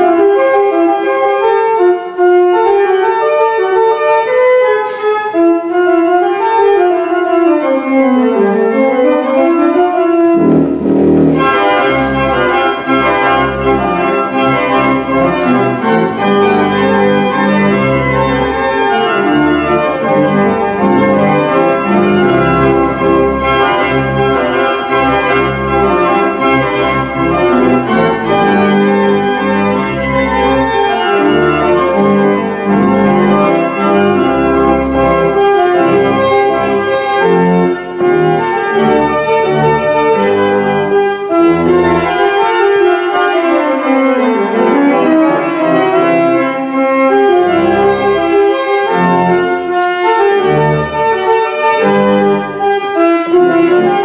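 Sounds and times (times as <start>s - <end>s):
church organ playing: 0.0s - 54.0s.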